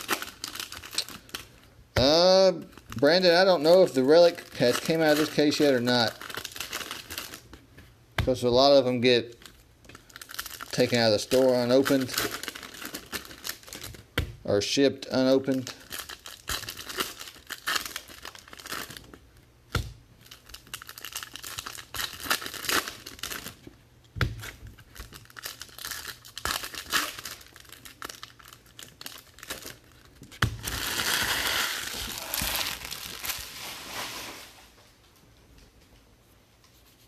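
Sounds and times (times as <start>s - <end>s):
plastic wrappers crinkling and tearing: 0.0s - 7.6s, 8.4s - 14.1s, 15.0s - 19.2s, 20.2s - 23.7s, 24.4s - 34.8s.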